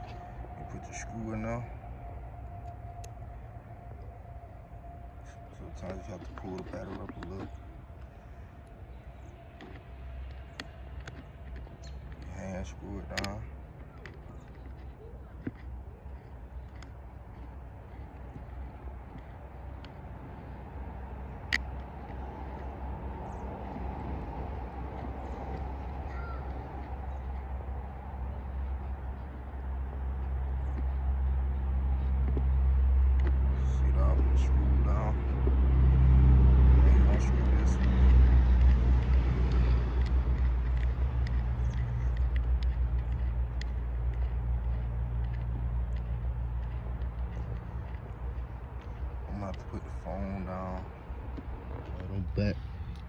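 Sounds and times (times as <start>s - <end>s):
low outdoor rumble: 0.0s - 53.0s.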